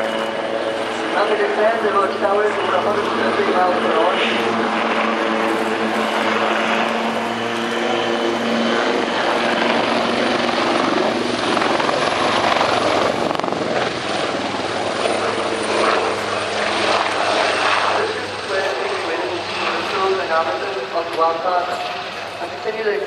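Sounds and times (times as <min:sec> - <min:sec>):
helicopter in flight: 0:00.0 - 0:23.0.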